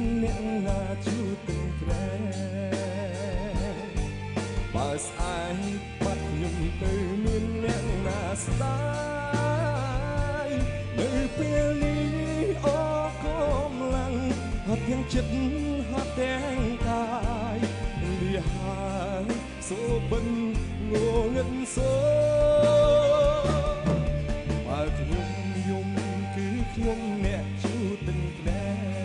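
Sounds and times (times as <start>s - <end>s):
instrumental accompaniment with bass: 0.0s - 29.0s
man singing into a microphone: 0.0s - 29.0s.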